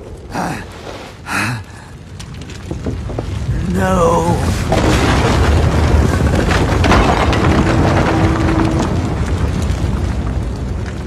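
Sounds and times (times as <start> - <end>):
fire crackling and snapping: 0.0 - 11.0
fire rumbling: 0.0 - 11.0.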